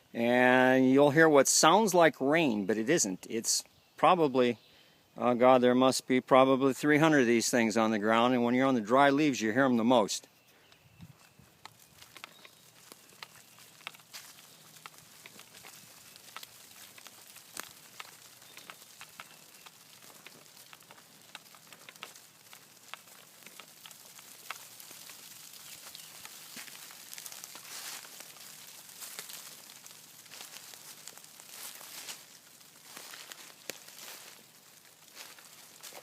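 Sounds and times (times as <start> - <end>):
insects pattering on dry leaves: 6.8 - 36.0.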